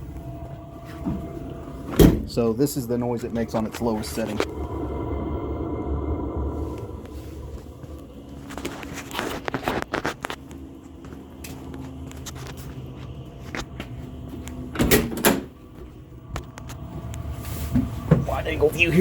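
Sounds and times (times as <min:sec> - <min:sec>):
air heater humming: 0:00.0 - 0:19.0.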